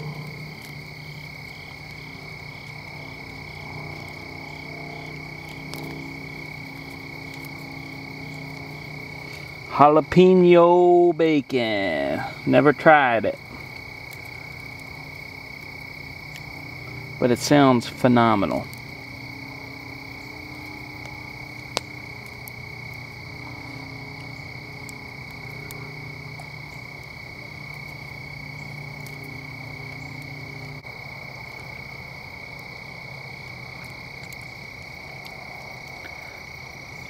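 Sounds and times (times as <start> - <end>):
low hum: 0.0 - 30.8
chorus of frogs and insects: 0.0 - 37.0.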